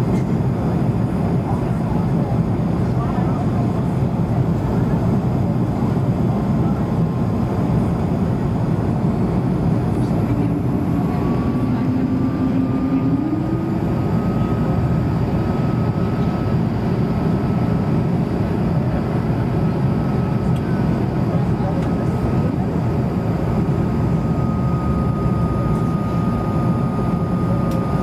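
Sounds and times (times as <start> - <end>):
airflow and jet engine noise: 0.0 - 28.0.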